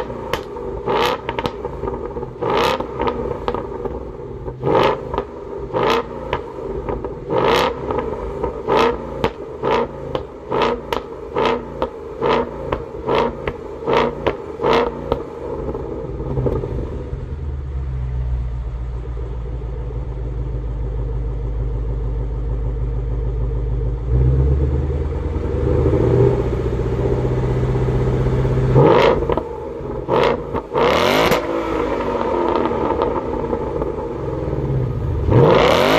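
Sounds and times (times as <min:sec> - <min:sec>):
car engine revving: 0:00.0 - 0:35.9
car engine running steadily: 0:00.0 - 0:35.9.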